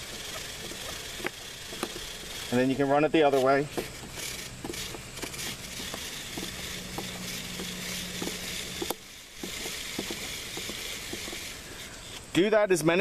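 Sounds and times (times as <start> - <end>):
small irregular clicks: 0.0 - 12.4
brush scrubbing a chain: 0.0 - 13.0.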